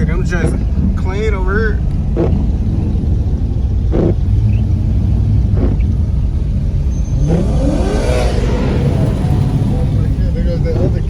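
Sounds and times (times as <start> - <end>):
car engine rumbling: 0.0 - 11.0
engine revving up: 2.0 - 11.0.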